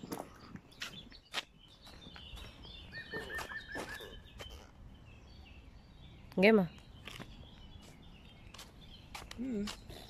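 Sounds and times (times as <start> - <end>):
footsteps on paved path: 0.0 - 5.4, 6.4 - 10.0
small bird singing: 0.0 - 10.0.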